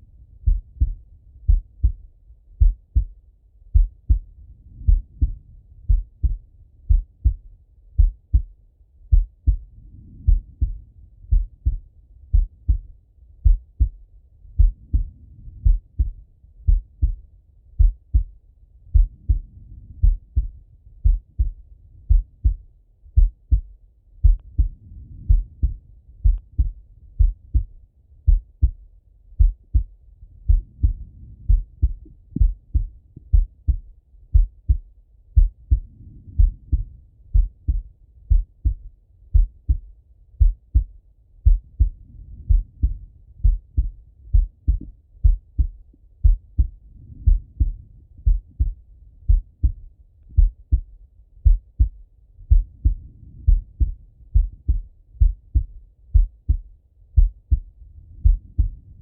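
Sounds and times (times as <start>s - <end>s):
heartbeat through a stethoscope: 0.0s - 59.0s.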